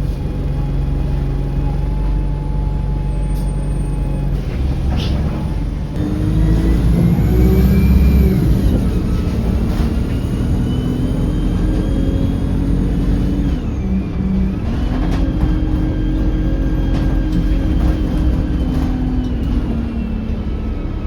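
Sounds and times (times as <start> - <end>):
bus engine with high whine: 0.0 - 21.0.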